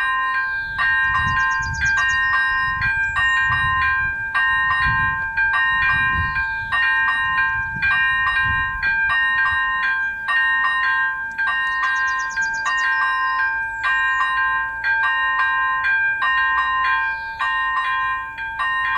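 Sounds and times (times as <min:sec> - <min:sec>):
level crossing warning bell: 0:00.0 - 0:18.9.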